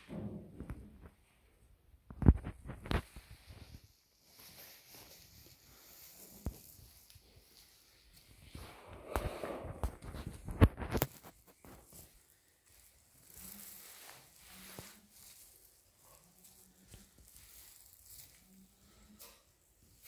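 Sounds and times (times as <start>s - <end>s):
faint shuffling and rustling: 0.0s - 20.0s.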